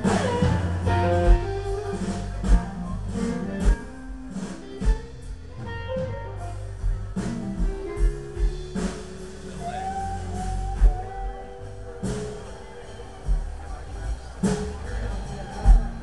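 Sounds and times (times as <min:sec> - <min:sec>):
drums: 0:00.0 - 0:16.0
electric guitar lead with bent notes: 0:00.0 - 0:16.0.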